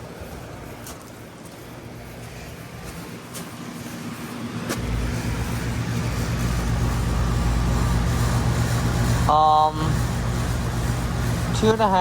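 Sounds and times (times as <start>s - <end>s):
air conditioner hum: 0.0s - 12.0s.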